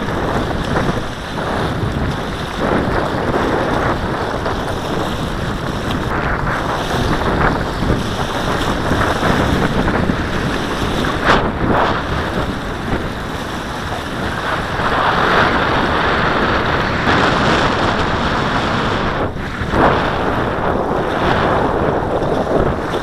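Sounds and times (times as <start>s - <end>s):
gusty wind on microphone: 0.0s - 23.0s
lake water lapping at shore: 0.0s - 23.0s.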